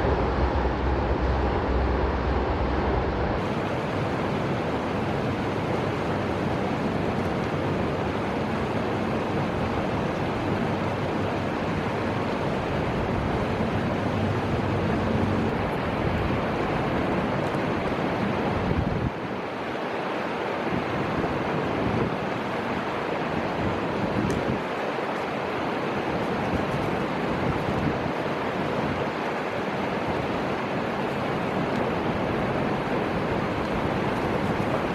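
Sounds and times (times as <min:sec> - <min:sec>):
wind buffeting on microphone: 0:00.0 - 0:19.6, 0:20.6 - 0:34.9
river water rushing: 0:00.0 - 0:34.9
wind: 0:00.0 - 0:34.9.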